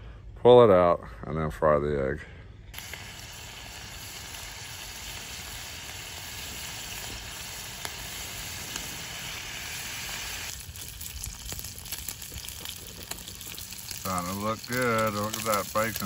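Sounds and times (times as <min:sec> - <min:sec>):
bacon sizzling in skillet: 0:02.8 - 0:16.0.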